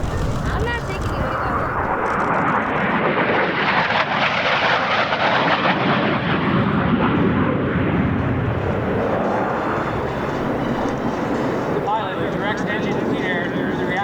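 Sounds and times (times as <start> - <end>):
jet aircraft passing: 0.0 - 14.0.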